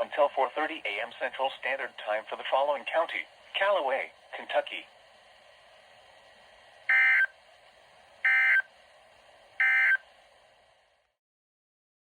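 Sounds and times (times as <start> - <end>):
faint radio hiss: 0.0 - 11.2.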